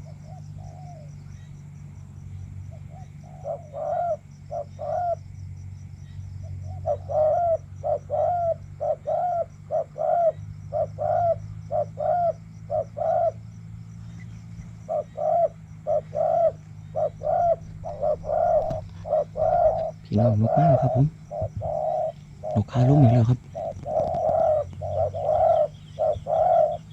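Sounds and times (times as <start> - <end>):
dove cooing: 0.0 - 1.7, 2.7 - 5.4, 6.1 - 26.9
steady low hum: 0.0 - 26.9.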